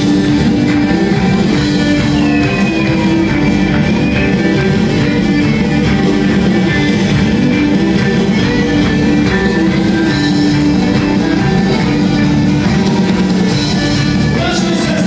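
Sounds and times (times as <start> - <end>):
drum kit beat: 0.0 - 15.0
strummed guitars: 0.0 - 15.0
fiddle: 0.4 - 15.0.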